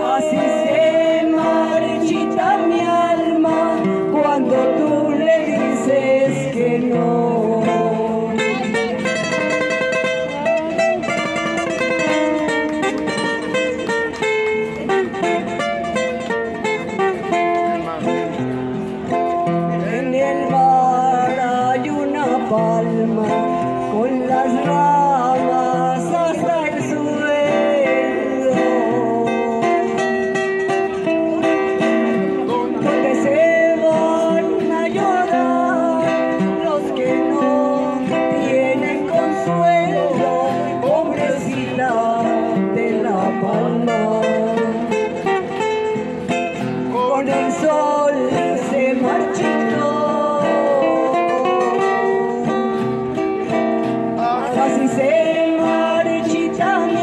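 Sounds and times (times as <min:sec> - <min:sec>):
woman singing: 0:00.0 - 0:13.4, 0:19.8 - 0:45.8, 0:46.9 - 0:53.6, 0:54.4 - 0:57.0
acoustic guitars playing: 0:00.0 - 0:57.0.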